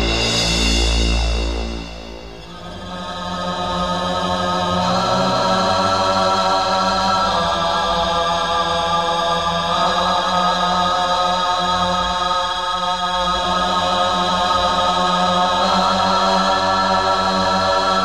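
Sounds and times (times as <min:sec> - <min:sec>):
choir-like chanting voices: 0:00.0 - 0:18.0
low drone: 0:00.0 - 0:18.0.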